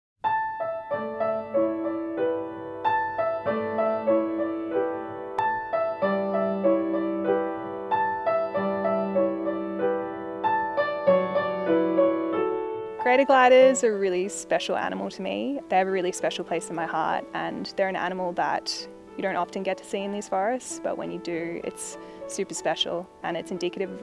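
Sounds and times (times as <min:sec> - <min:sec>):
gentle piano music: 0:00.2 - 0:24.0.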